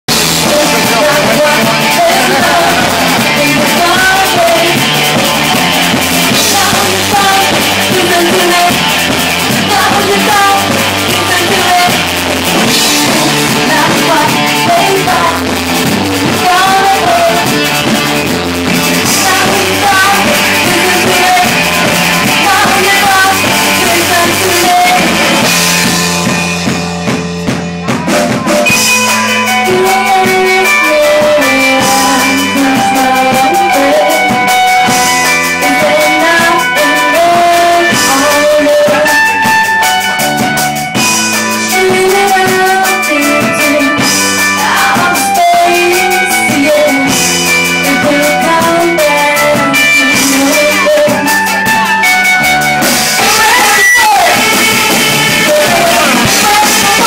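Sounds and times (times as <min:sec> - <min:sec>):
bass guitar: 0:00.0 - 0:57.0
drum kit: 0:00.0 - 0:57.0
electric guitar: 0:00.1 - 0:57.0
lead vocals: 0:00.1 - 0:57.0.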